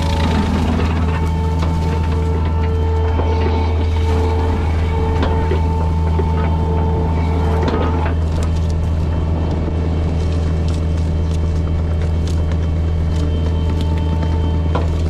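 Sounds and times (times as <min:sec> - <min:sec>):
brush-cutter chewing through brush: 0:00.0 - 0:15.0
excavator engine running: 0:00.0 - 0:15.0
high steady whine: 0:00.0 - 0:15.0.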